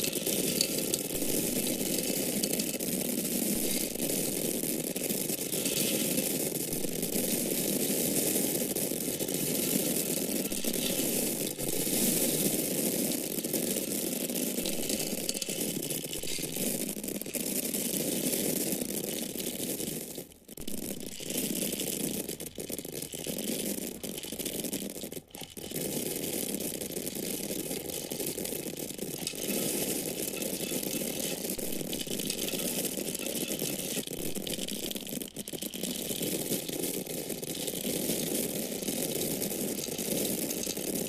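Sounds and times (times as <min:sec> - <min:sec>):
dry corn kernels falling: 0:00.0 - 0:41.0.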